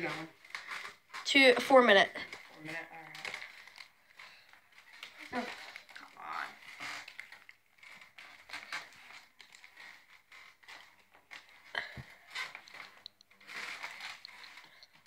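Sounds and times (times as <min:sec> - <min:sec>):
wrapping paper rustling and tearing: 0:00.0 - 0:15.0.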